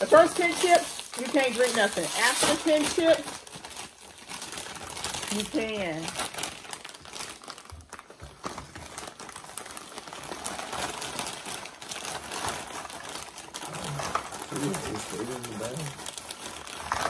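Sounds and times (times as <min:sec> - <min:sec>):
chip bag crinkling: 0:00.0 - 0:17.0.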